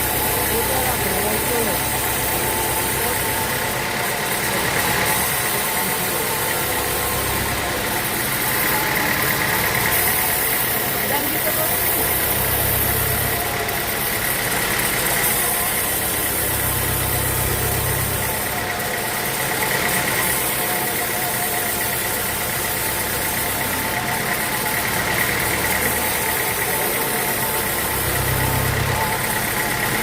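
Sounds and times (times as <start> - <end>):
sawmill machinery drone: 0.0 - 30.0
steady machine whine: 0.0 - 30.0.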